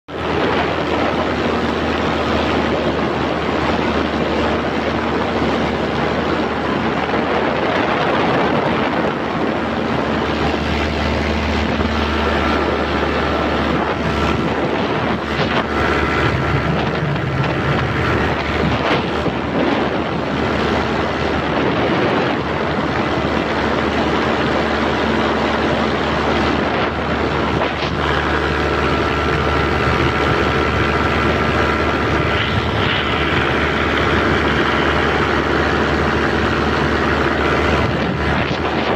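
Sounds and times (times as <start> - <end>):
paramotor engine running: 0.1 - 38.9
wind noise on microphone: 0.1 - 38.9.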